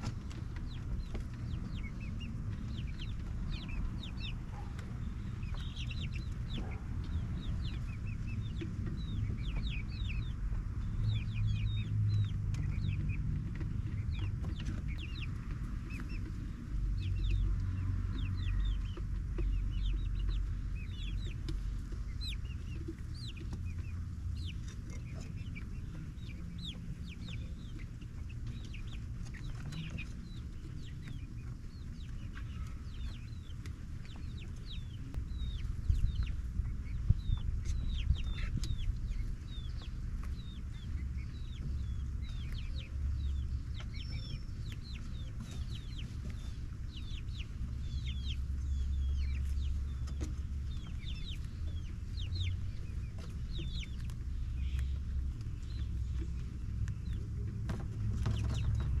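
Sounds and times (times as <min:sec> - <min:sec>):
steady low rumble: 0:00.0 - 0:59.0
young chickens clucking and peeping: 0:00.0 - 0:59.0.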